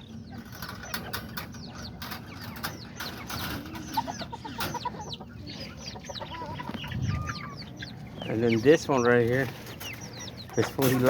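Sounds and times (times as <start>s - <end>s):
low background hum: 0.0s - 11.0s
small chickens clucking and chirping: 0.0s - 11.0s.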